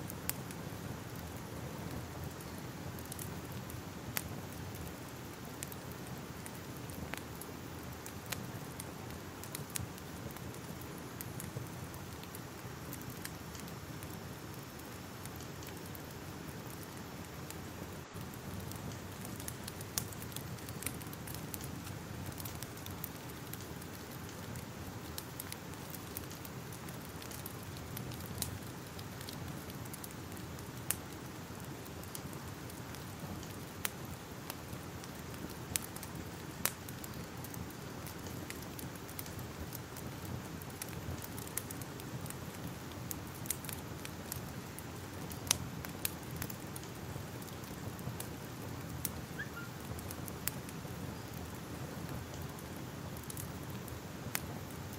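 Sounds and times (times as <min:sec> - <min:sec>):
fire hissing and rumbling: 0:00.0 - 0:54.9
fire popping and snapping: 0:00.0 - 0:54.9.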